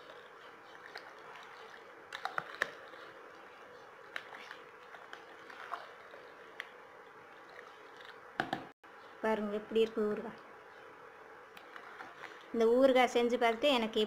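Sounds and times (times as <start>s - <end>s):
spoon stirring wet pickle: 0.0s - 8.3s, 9.7s - 14.0s.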